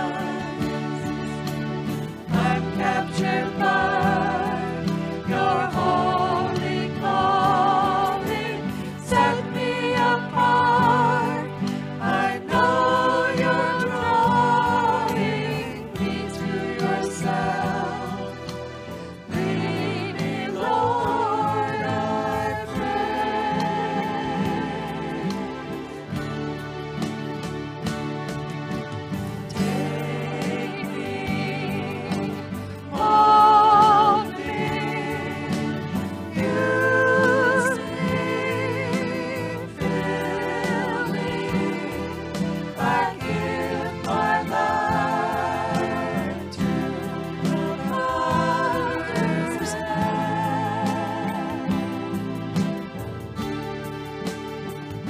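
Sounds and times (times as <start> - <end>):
congregation singing: 0.0 - 27.4, 28.5 - 55.0
instrumental accompaniment: 0.0 - 55.0.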